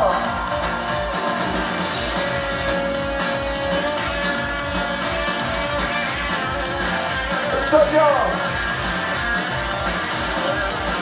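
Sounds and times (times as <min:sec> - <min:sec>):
electric guitar break: 0:00.0 - 0:11.0
live band music: 0:00.0 - 0:11.0.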